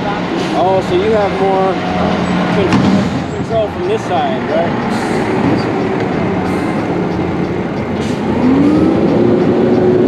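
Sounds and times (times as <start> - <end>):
motor vehicle passing close: 0.0 - 10.0
steady rushing noise: 0.0 - 10.0.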